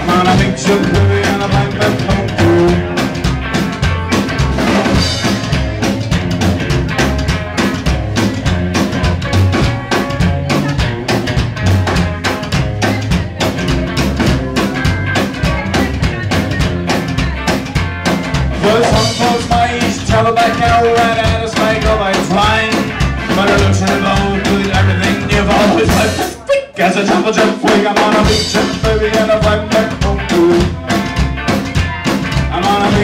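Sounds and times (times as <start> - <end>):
drum kit beat: 0.0 - 33.0
electric guitar: 0.0 - 33.0
upright bass: 0.0 - 33.0.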